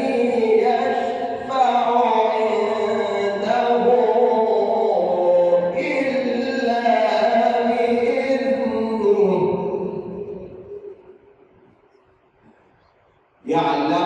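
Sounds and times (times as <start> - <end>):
man reciting in melodic chant: 0.0 - 11.0, 13.4 - 14.0.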